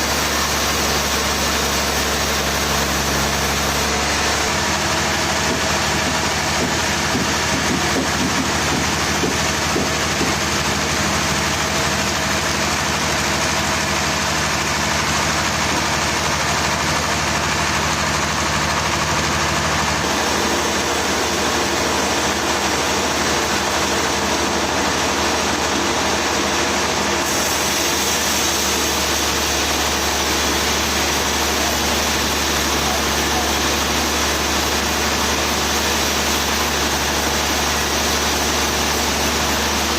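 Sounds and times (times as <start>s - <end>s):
heavy engine hum: 0.0s - 39.9s
sawmill machinery running: 0.0s - 39.9s.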